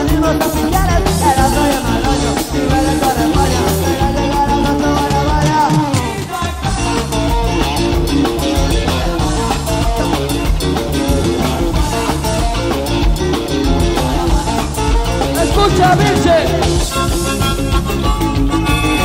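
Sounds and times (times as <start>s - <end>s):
pop-rock band playing: 0.0s - 19.0s.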